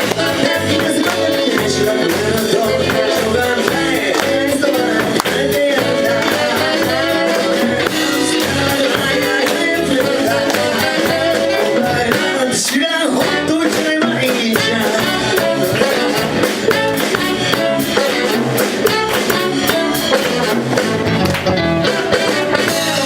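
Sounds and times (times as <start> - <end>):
live guitar band music: 0.0 - 23.0.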